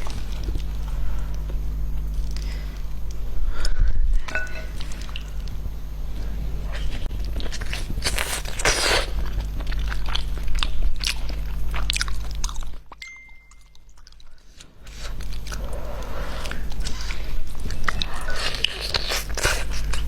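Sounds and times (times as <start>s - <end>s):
low hum: 0.0s - 19.0s
person crunching and chewing food: 0.0s - 20.0s.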